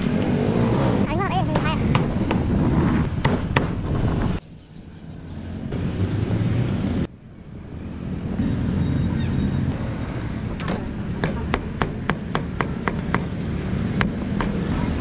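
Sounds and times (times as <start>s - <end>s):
street traffic engines: 0.0s - 15.0s.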